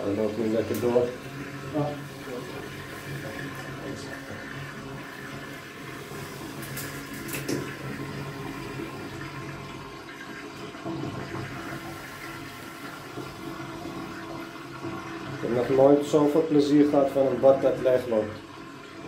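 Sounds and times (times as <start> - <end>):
water rushing down a drain: 0.0 - 19.0.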